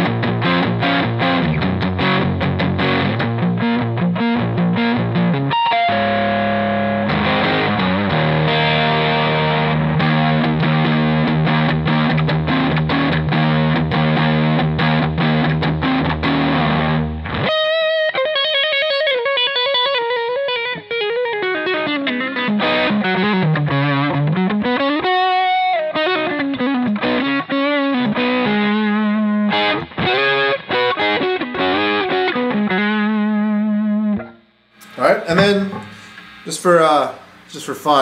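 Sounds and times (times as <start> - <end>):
overdriven electric guitar: 0.0 - 37.6.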